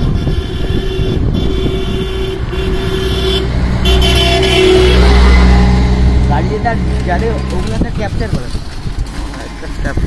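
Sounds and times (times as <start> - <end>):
engine rumble: 0.0 - 10.0
passing vehicle engine: 0.0 - 10.0
wind: 0.0 - 10.0.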